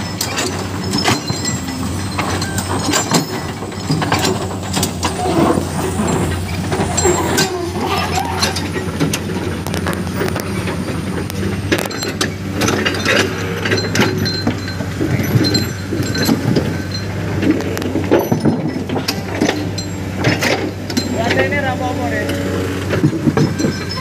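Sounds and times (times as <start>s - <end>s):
bucket clanking and scraping stone: 0.0s - 24.0s
excavator diesel engine: 0.0s - 24.0s.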